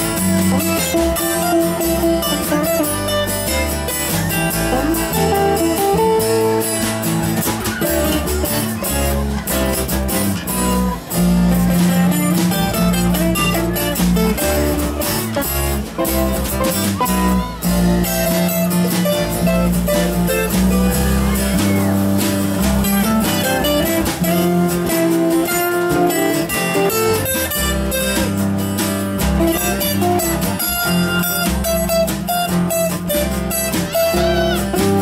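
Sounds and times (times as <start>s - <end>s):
acoustic guitars strumming: 0.0s - 35.0s
bass line: 0.0s - 35.0s
electric guitar: 0.0s - 35.0s.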